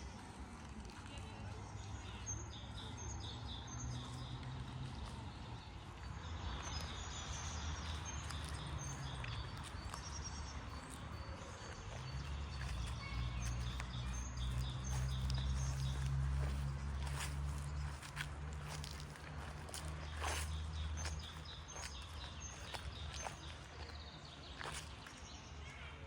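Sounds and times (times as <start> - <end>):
small birds chirping: 0.0 - 26.0
footsteps crunching on trail: 3.7 - 25.6.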